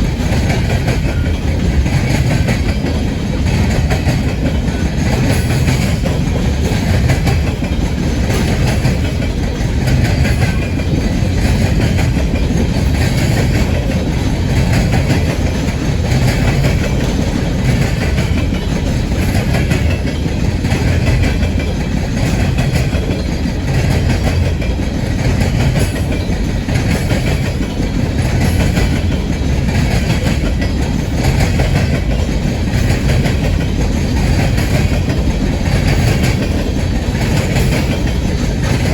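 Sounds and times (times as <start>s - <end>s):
freight train cars rolling: 0.0s - 38.9s
wheels clacking over rail joints: 0.0s - 38.9s.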